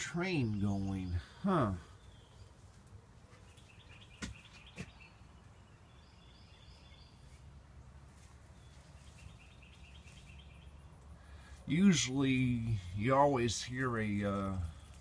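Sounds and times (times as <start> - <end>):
faint bird chirps: 0.1 - 7.6, 8.6 - 15.0.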